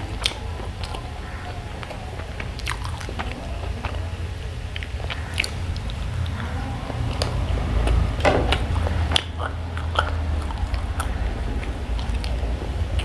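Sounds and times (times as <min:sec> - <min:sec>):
chewing and biting food: 0:00.0 - 0:13.0
steady low hum: 0:00.0 - 0:13.0.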